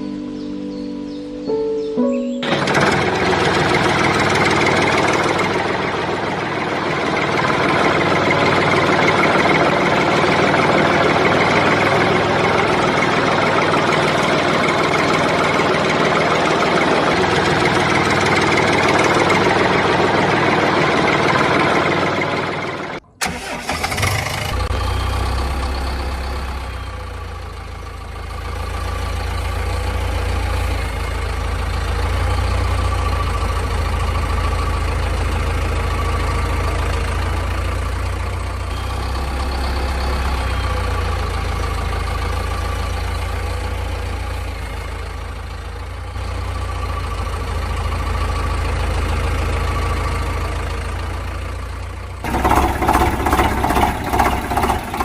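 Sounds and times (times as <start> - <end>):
heavy engine idling: 2.4 - 55.0.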